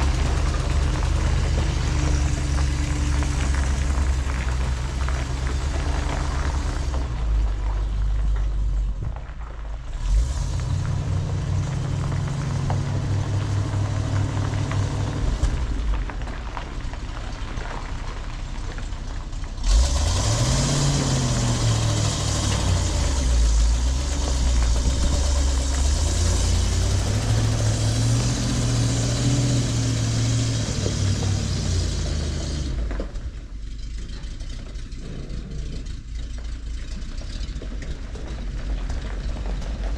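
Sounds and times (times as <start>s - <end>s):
truck engine revving: 0.0s - 8.9s, 9.9s - 16.6s, 19.6s - 39.9s.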